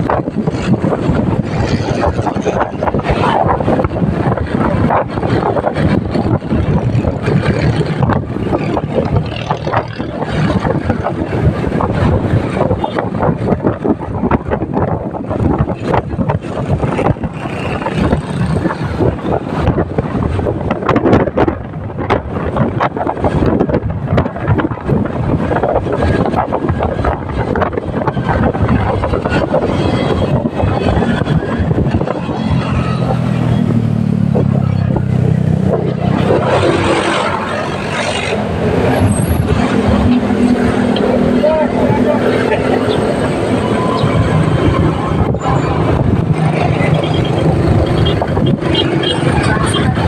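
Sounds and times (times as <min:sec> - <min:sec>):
broad rush of noise: 0:00.0 - 0:50.0
road and engine rumble: 0:00.0 - 0:50.0
wind buffeting microphone: 0:00.0 - 0:50.0.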